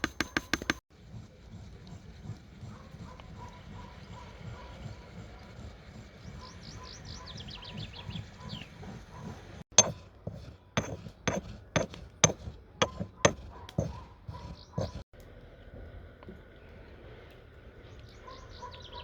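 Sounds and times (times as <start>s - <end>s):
faint outdoor background: 0.0s - 19.0s.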